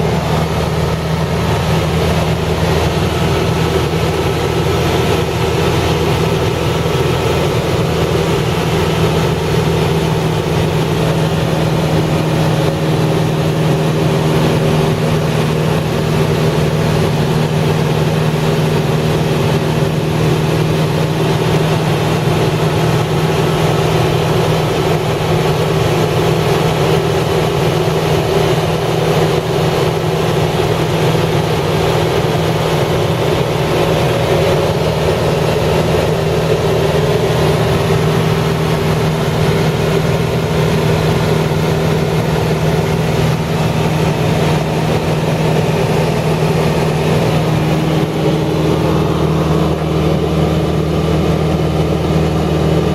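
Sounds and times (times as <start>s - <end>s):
engine hum: 0.0s - 52.9s.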